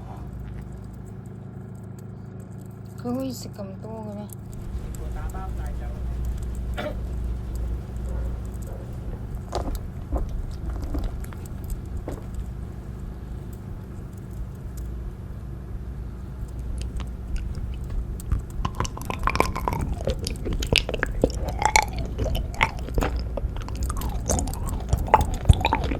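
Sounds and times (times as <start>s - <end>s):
hamster chewing food: 0.0s - 25.9s
steady low hum: 0.0s - 25.9s.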